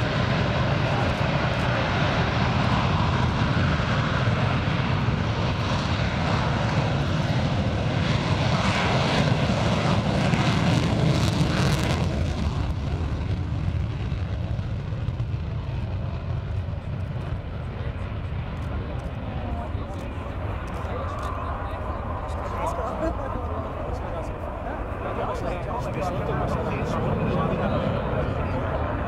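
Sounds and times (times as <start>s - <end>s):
jet roar on take-off: 0.0s - 29.0s.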